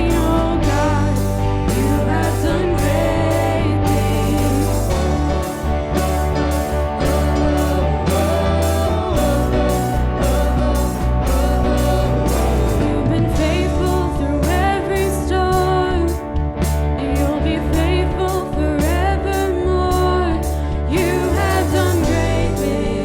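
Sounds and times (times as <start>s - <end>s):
people singing: 0.0s - 16.2s, 17.0s - 23.0s
steady drum beat: 0.0s - 16.9s, 21.0s - 23.0s
bass: 0.0s - 23.0s
guitar: 0.0s - 23.0s.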